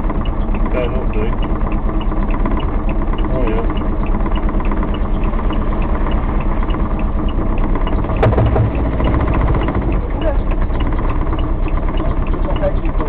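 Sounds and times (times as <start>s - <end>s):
diesel engine idling: 0.0s - 13.0s
light ticking: 0.0s - 13.0s.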